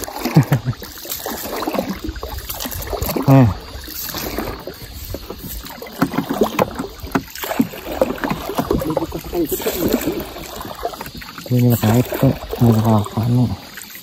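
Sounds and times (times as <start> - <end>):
paddle shaft knocking: 0.0 - 13.2
paddle splashing in water: 0.0 - 14.0.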